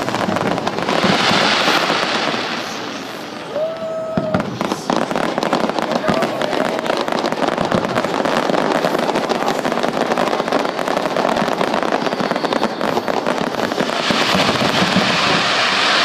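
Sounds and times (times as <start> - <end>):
fireworks popping and crackling: 0.0 - 16.0
hissing crackle: 0.0 - 16.0.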